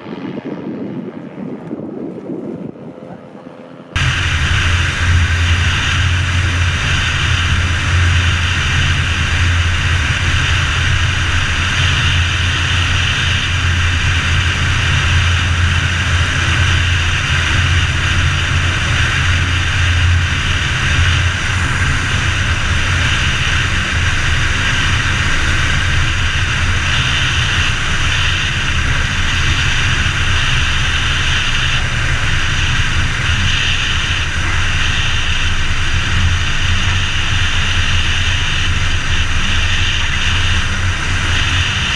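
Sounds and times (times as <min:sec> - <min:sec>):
aircraft engine and propeller drone: 0:00.0 - 0:41.9
loud rushing hiss: 0:04.0 - 0:41.9.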